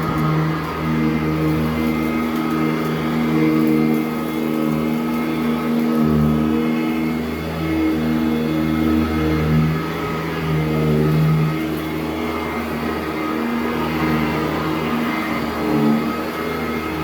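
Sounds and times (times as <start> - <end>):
upright vacuum running over carpet: 0.0 - 17.0.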